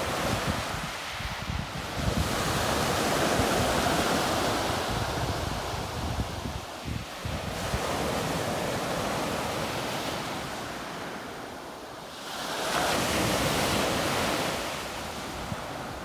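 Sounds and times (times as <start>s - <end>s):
small waves washing onto beach: 0.0s - 16.0s.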